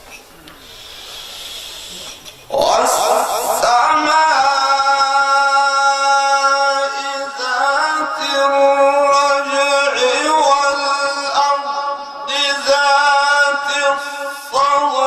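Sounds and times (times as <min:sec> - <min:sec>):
man chanting a long note: 0:02.5 - 0:15.0.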